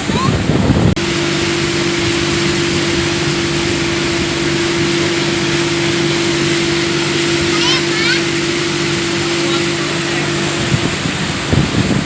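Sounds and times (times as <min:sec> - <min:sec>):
motorboat engine humming: 0:00.0 - 0:12.0
wind and water rushing: 0:00.0 - 0:12.0.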